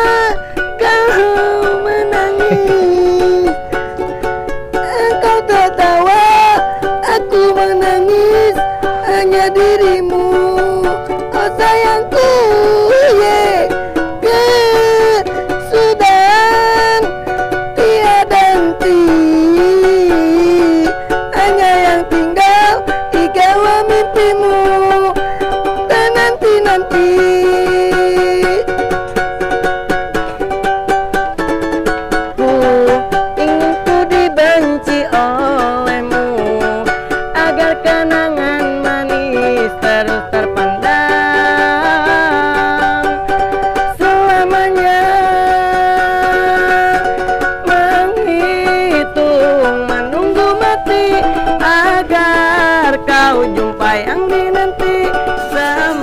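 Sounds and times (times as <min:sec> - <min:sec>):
ukulele sliding melody: 0:00.0 - 0:56.0.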